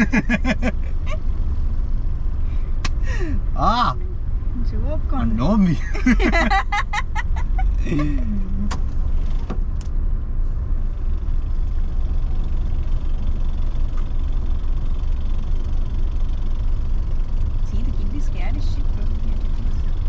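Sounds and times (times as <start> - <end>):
car driving rumble inside cabin: 0.0 - 20.0.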